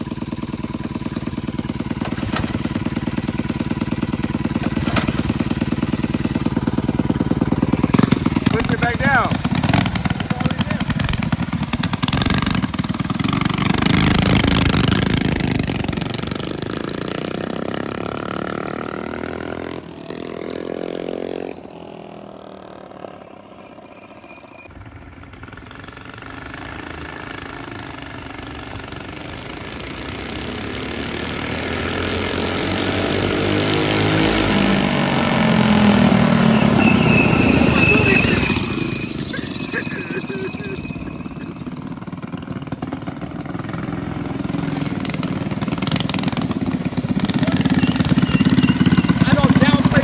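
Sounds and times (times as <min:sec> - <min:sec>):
small motorbike engine running: 0:00.0 - 0:50.0.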